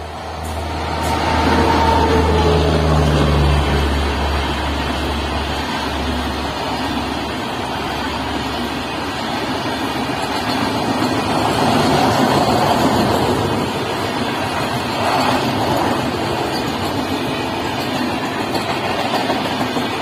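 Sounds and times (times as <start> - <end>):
electric locomotive hum: 0.0 - 20.0
train wheels rumbling on rails: 0.0 - 20.0.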